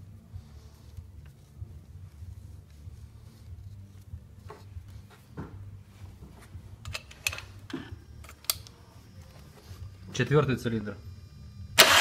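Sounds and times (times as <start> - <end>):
low steady hum: 0.0 - 11.8.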